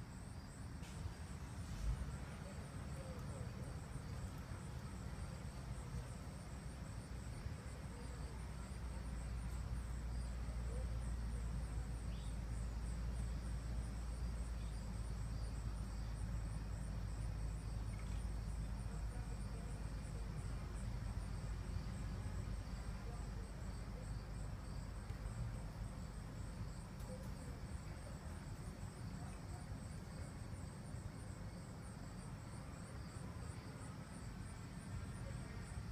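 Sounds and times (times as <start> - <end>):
constant low rumble: 0.0 - 35.9
crickets chirping: 0.0 - 35.9.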